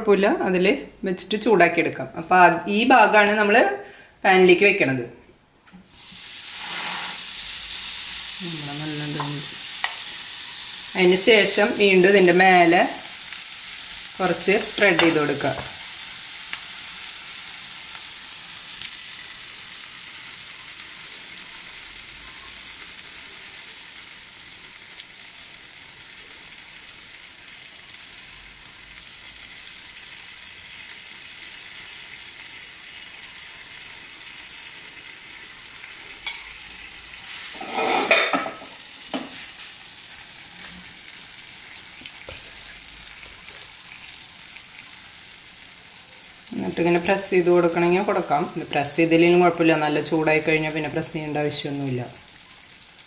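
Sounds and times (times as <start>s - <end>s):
butter sizzling on a griddle: 5.8s - 53.0s.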